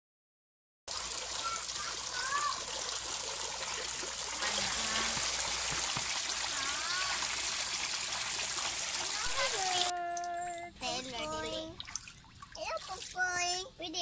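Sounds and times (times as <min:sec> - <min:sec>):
water trickling and splashing: 0:00.9 - 0:13.7.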